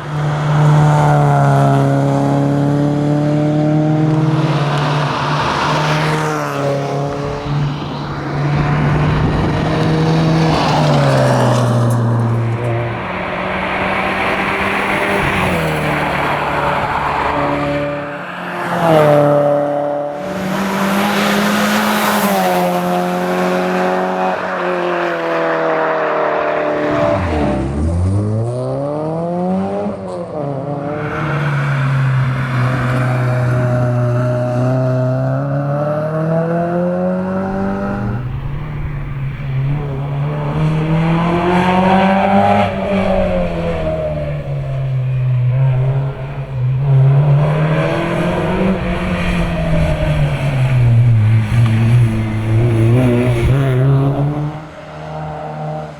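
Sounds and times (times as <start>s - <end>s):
car engine revving through gears: 0.0s - 55.9s.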